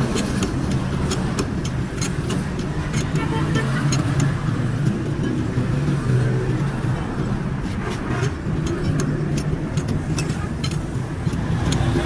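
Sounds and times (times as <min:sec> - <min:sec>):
sharp clicks and taps: 0:00.0 - 0:12.0.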